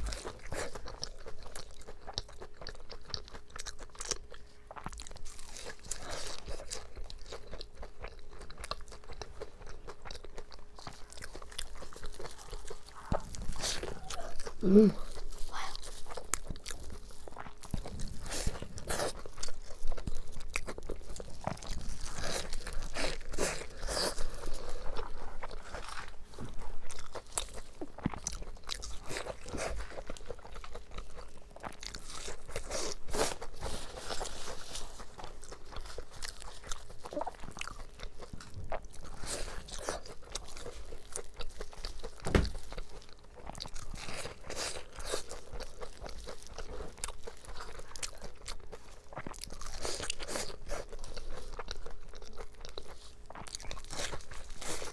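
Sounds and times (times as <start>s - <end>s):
crunching and chewing fried food: 0.0s - 54.9s.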